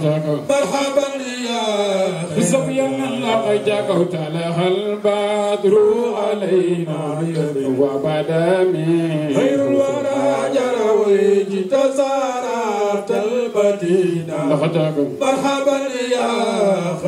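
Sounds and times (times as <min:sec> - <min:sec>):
men chanting into microphones: 0:00.4 - 0:17.0.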